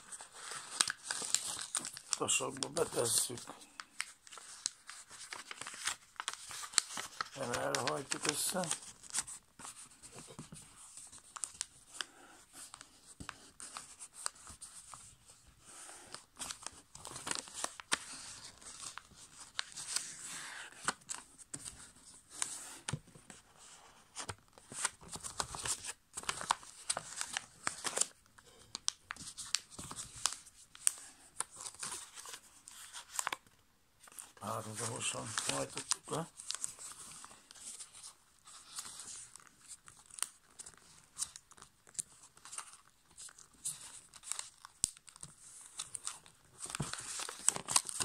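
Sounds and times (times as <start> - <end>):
paper rustling and crinkling: 0.0 - 48.0.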